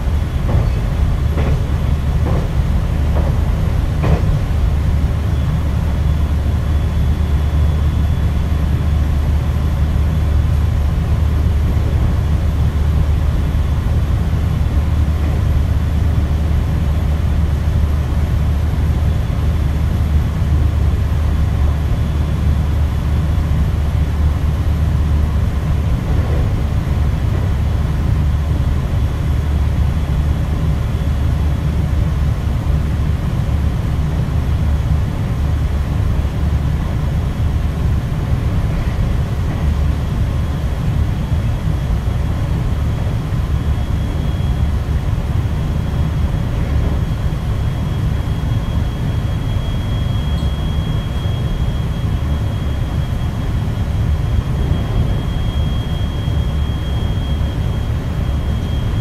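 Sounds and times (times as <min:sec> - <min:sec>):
electric train rumbling: 0:00.0 - 0:59.0
faint high whine: 0:01.8 - 0:32.2, 0:34.1 - 0:59.0.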